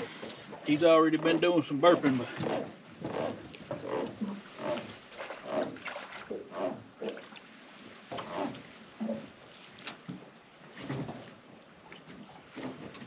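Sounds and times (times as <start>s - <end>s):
water splashing: 0.0s - 13.0s
waves slapping a boat hull: 0.0s - 13.0s.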